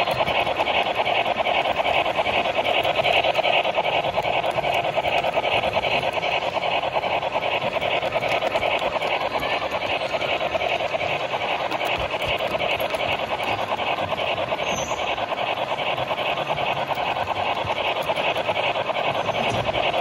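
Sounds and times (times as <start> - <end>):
model train rumbling on track: 0.0 - 20.0.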